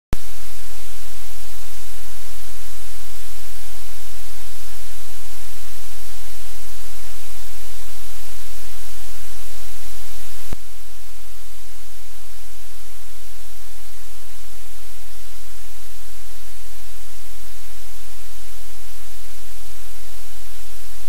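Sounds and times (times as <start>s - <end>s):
microphone hiss: 0.2s - 21.0s.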